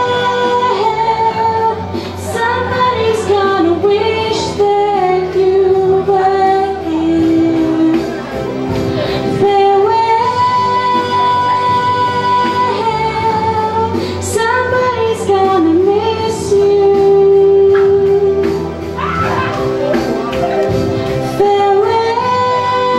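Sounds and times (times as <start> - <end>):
woman singing slow ballad: 0.0 - 19.1, 20.7 - 22.9
instrumental backing: 0.0 - 22.9.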